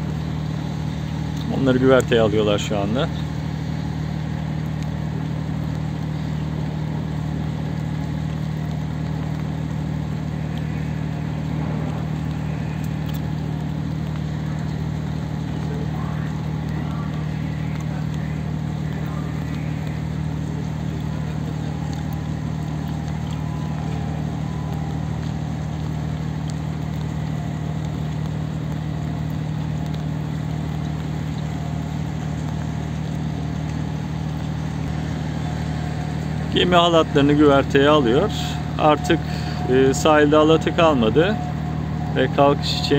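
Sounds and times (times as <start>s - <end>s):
diesel machinery drone: 0.0s - 42.9s.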